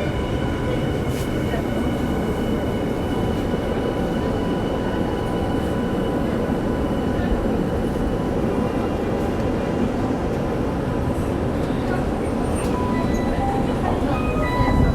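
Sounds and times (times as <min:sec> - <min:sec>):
subway train rumble: 0:00.0 - 0:14.9.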